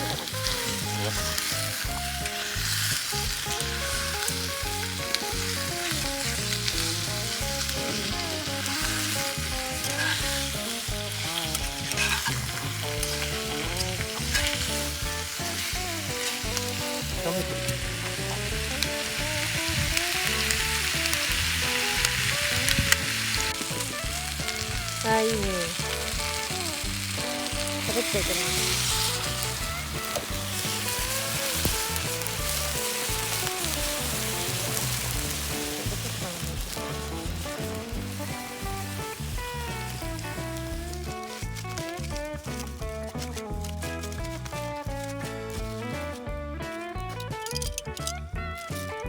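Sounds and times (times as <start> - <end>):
chicken sizzling in a skillet: 0.0 - 49.0.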